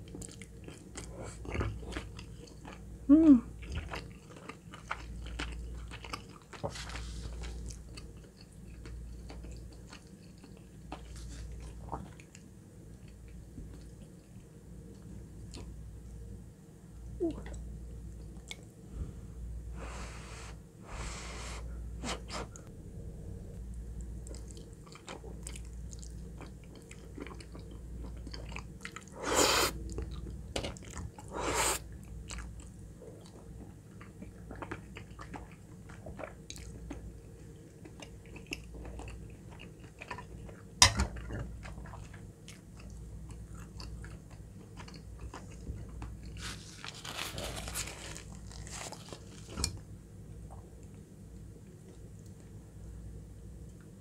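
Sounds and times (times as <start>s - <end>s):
chewing and crunching food: 0.0s - 16.3s, 17.2s - 18.8s, 23.8s - 54.0s.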